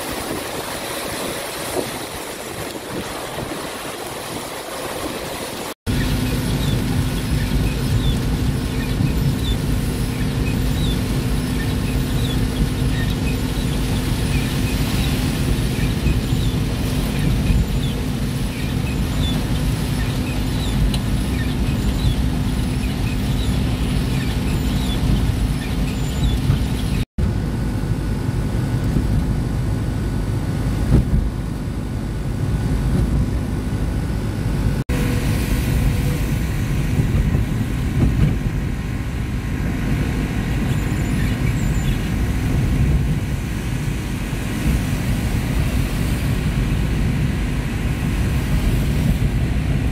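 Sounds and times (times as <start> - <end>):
vehicle engine running: 5.5 - 49.9.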